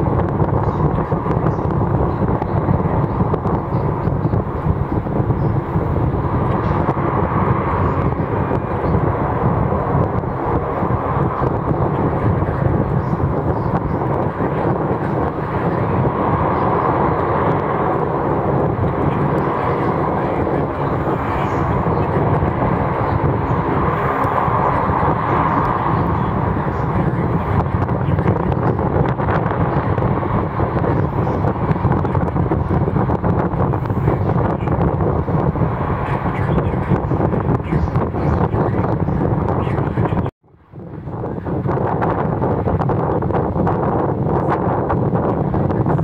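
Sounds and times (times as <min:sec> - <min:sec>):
turboprop engines running: 0:00.0 - 0:46.0
wind buffeting microphone: 0:00.0 - 0:46.0.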